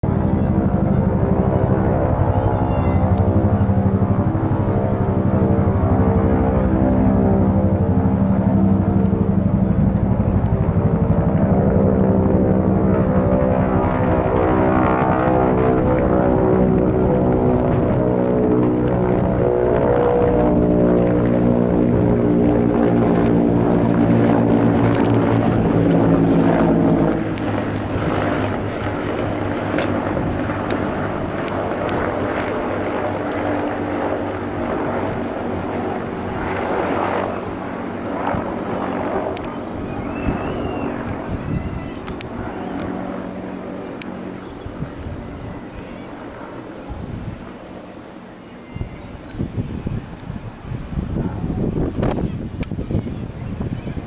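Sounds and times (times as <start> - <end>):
helicopter rotor beating drone: 0.0 - 54.0.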